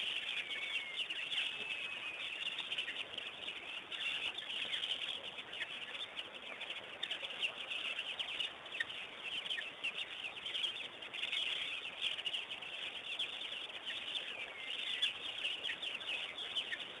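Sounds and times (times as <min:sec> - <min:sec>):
chorus of birds chirping: 0:00.0 - 0:17.0.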